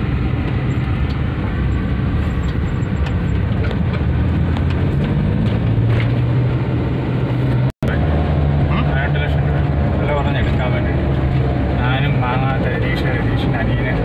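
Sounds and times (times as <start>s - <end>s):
car engine hum: 0.0s - 14.0s
road rumble: 0.0s - 14.0s.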